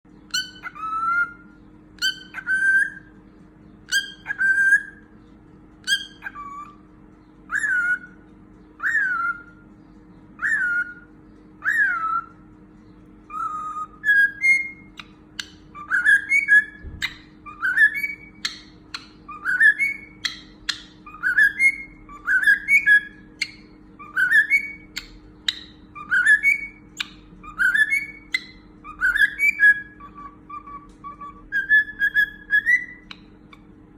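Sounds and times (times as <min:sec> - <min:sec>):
cockatiel whistling: 0:00.3 - 0:03.1, 0:03.9 - 0:05.0, 0:05.8 - 0:06.8, 0:07.5 - 0:08.2, 0:08.8 - 0:09.6, 0:10.4 - 0:12.4, 0:13.3 - 0:33.6.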